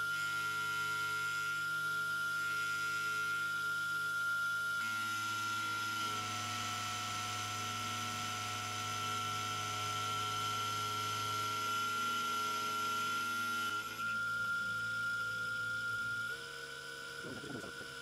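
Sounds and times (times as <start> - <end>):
mill cutting steel whine: 0.0 - 18.0.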